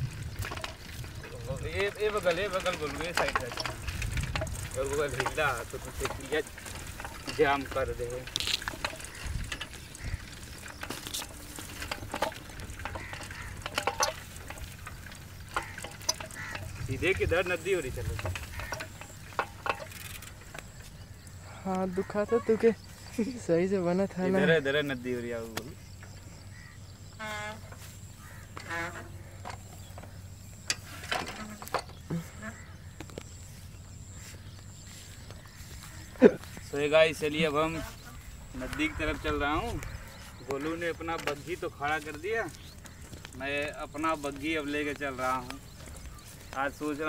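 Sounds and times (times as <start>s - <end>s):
bicycles rattling over dirt track: 0.0s - 47.0s.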